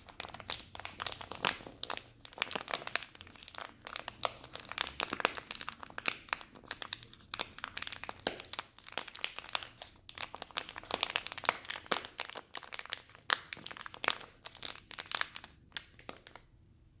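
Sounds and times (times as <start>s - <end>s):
packet crinkling: 0.0s - 16.5s.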